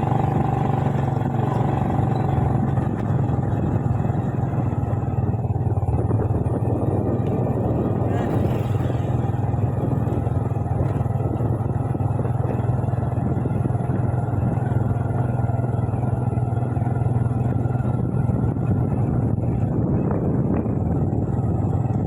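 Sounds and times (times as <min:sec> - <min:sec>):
motorbike engine droning: 0:00.0 - 0:22.0.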